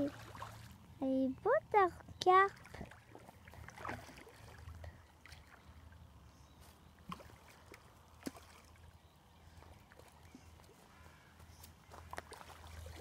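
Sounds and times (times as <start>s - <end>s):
water splashing and lapping: 0.0s - 13.0s.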